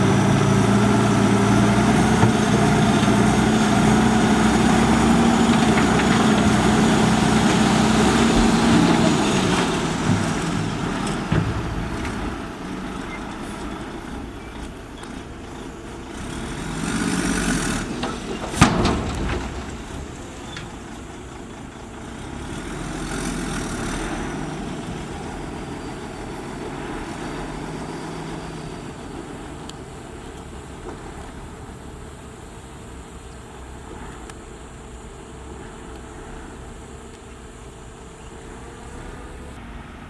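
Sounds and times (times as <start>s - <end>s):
heavy machinery engine running: 0.0s - 40.0s.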